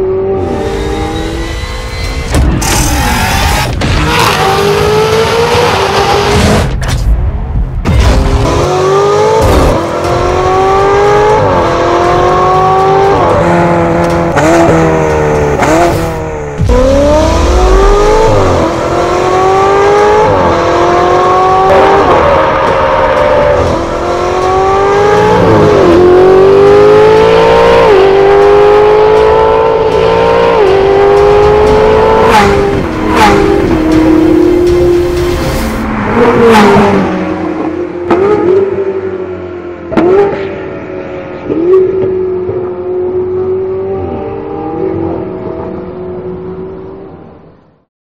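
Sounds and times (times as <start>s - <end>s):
sports car engines accelerating: 0.0s - 6.7s, 8.2s - 47.8s.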